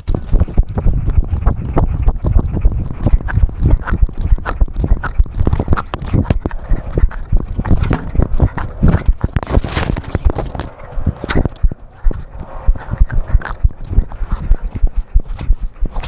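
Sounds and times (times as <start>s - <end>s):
camera thumps and rubbing: 0.0s - 16.0s.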